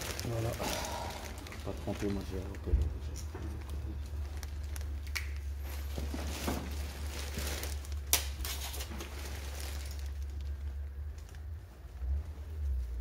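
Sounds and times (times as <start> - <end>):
clicks and rustling of plastic connectors: 0.0 - 12.0
steady low hum: 0.0 - 13.0.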